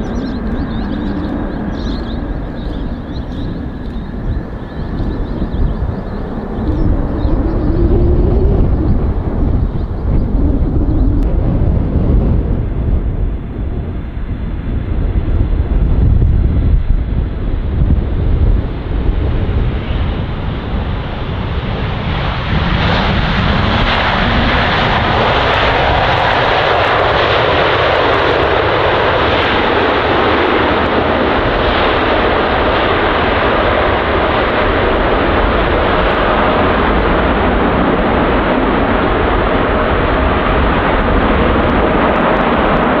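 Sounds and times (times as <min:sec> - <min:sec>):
jet engines roaring: 0:00.0 - 0:43.0.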